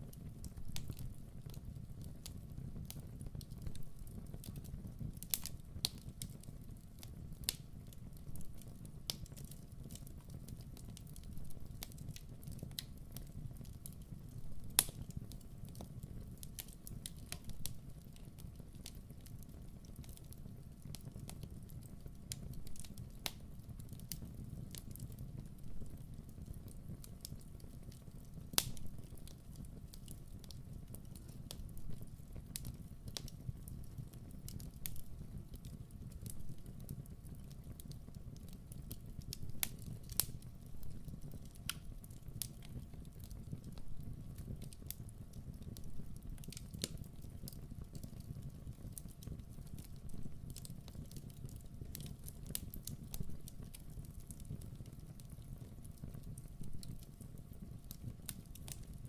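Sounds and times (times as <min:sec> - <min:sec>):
fire flames rumbling: 0:00.0 - 0:59.0
logs crackling and popping: 0:00.0 - 0:59.0.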